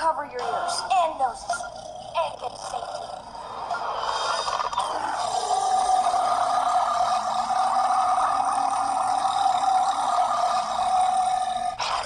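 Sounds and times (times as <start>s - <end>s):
long burp: 1.6s - 12.0s.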